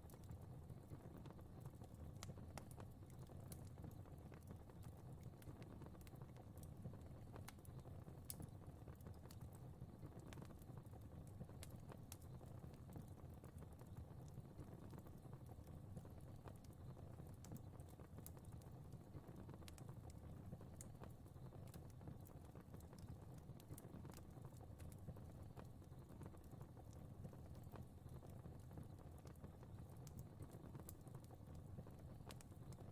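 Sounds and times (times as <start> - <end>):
fire crackling: 0.1 - 32.9.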